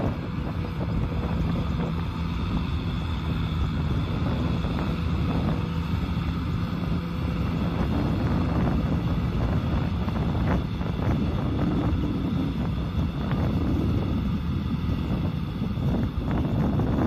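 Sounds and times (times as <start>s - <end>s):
tractor diesel engine running: 0.0s - 17.0s
wind on microphone: 0.0s - 17.0s.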